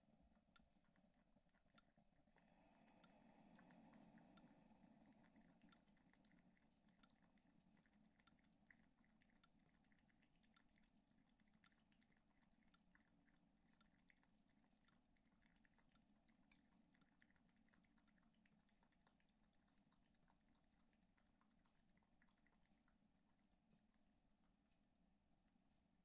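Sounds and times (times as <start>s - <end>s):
coffee maker ticks and drips: 0.0s - 24.6s
low steady hum: 0.0s - 26.0s.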